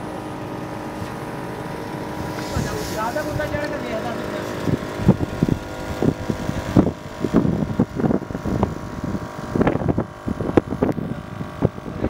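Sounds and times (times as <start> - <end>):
engine and tyre rumble: 0.0 - 12.0
wind buffeting microphone: 2.1 - 12.0.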